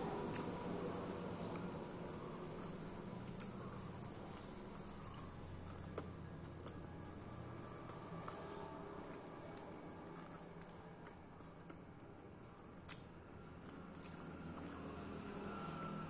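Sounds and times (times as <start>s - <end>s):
close chewing mouth sounds: 0.3s - 0.6s, 1.4s - 16.0s.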